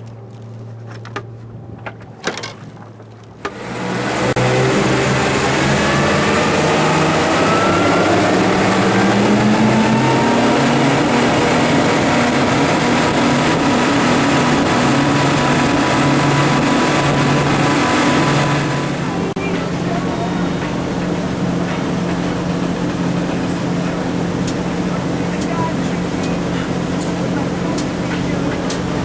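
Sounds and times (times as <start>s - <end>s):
outboard motors running: 0.0s - 29.0s
rushing water noise: 2.1s - 29.0s.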